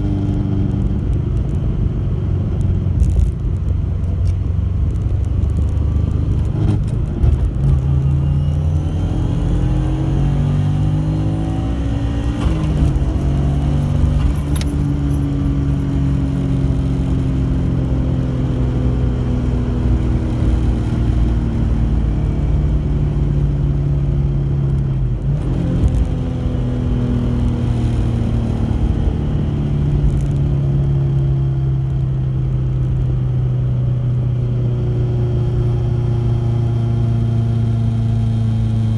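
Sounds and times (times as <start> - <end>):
car engine and drivetrain: 0.0 - 38.9.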